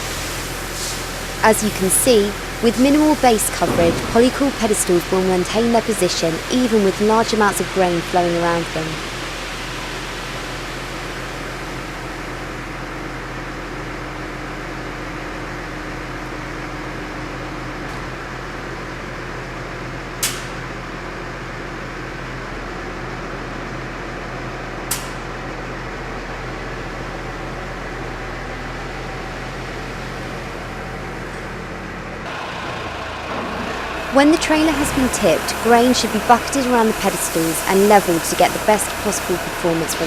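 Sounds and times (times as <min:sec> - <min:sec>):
machine hum: 0:00.0 - 0:19.7, 0:26.0 - 0:40.0.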